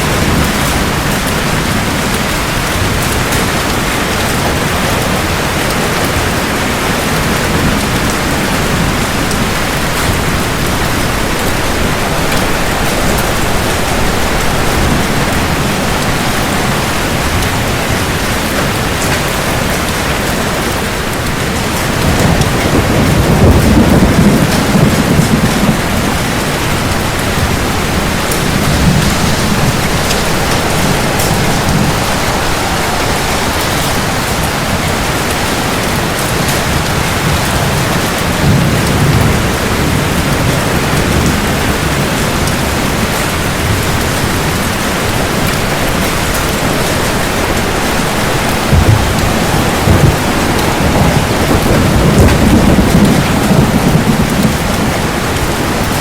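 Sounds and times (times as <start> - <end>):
heavy rain hissing and splashing: 0.0 - 56.0
low rolling thunder: 0.0 - 56.0.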